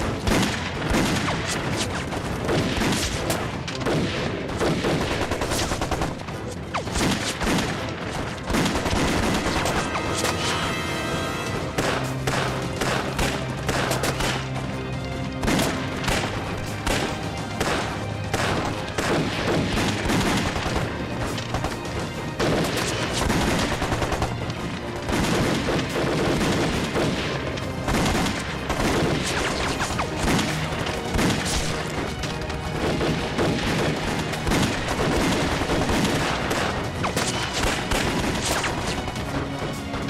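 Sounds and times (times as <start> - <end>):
rapid gunfire: 0.0 - 10.7, 11.5 - 14.6, 15.4 - 40.0
dramatic music score: 0.0 - 40.0.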